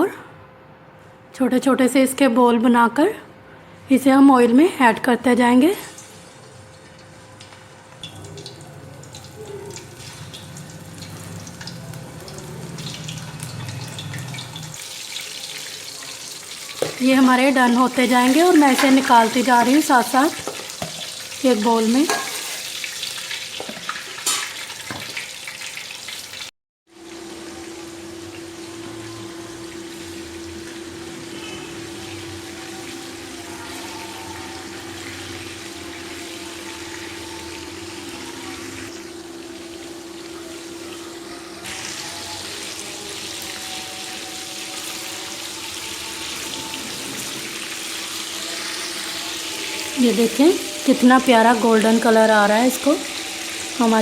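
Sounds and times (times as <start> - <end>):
food sizzling in hot oil: 5.9 - 54.0.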